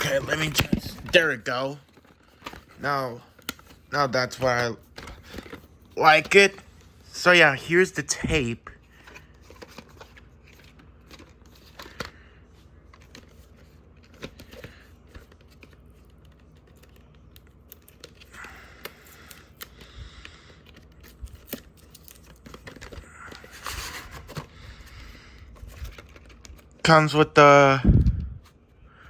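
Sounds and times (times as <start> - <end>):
paper or plastic rustling: 0.0 - 6.9, 8.2 - 18.3, 20.6 - 26.9.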